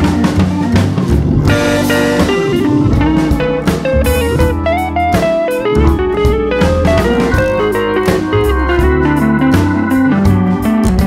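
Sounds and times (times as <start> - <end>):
guitar music with drums and bass: 0.0 - 11.0.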